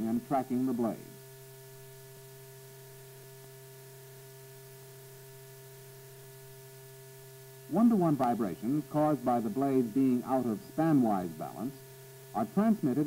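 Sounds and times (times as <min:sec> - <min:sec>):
faint steady high tones: 0:00.0 - 0:13.0
light hiss: 0:00.0 - 0:13.0.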